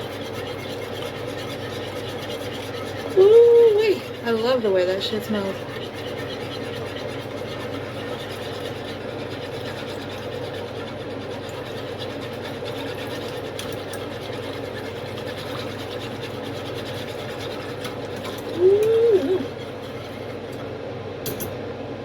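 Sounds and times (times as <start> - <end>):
pot simmering on stove: 0.0 - 21.0.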